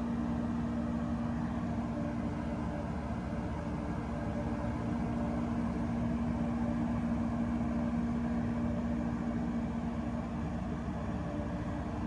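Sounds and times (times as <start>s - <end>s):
rooftop hvac unit humming: 0.0s - 12.0s.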